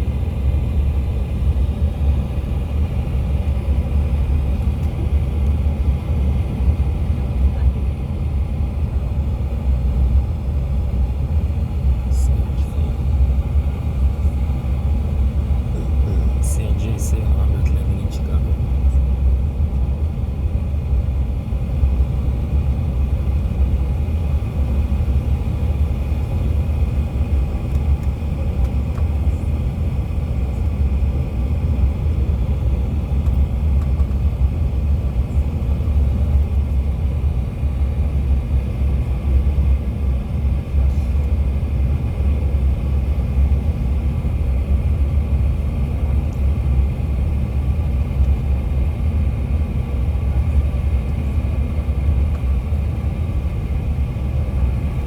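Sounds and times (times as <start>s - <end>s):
faint turbofan whine: 0.0s - 55.0s
jet engines and airflow rumble: 0.0s - 55.0s.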